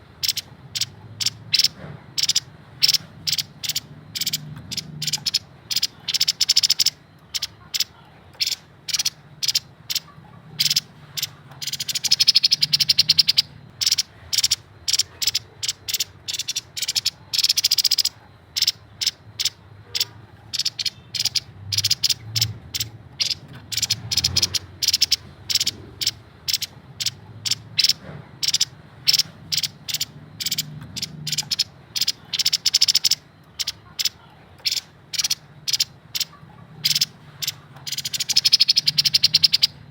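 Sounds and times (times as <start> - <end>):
faint low hum: 0.0 - 39.9
bird calling sharp clicking notes: 0.2 - 39.7
rattling bird trills: 0.2 - 39.9.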